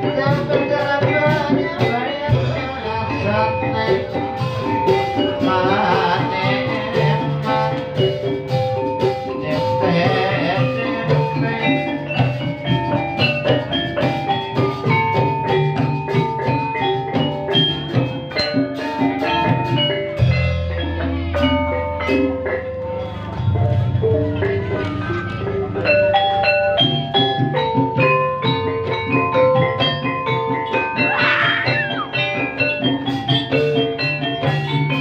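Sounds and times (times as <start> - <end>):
drums in steady rhythm: 0.0 - 35.0
metallophone notes: 0.0 - 35.0.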